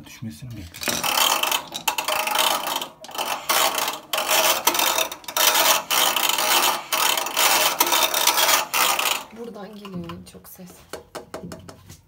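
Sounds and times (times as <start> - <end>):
washing machine drum scraping: 0.6 - 10.3.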